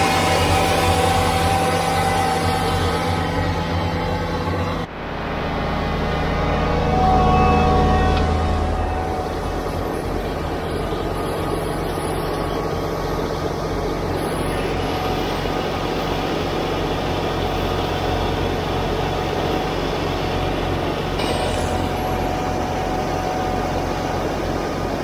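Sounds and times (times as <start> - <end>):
thin steady whine: 0.0 - 25.0.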